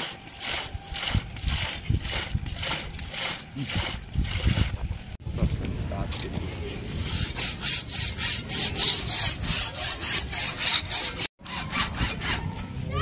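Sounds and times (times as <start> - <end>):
hand saw strokes: 0.0 - 4.6, 6.7 - 13.0.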